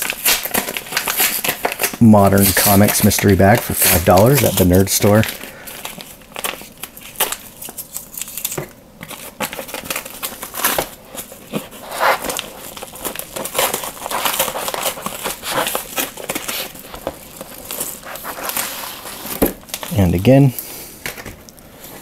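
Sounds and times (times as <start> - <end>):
padded envelope crinkling: 0.0 - 20.4.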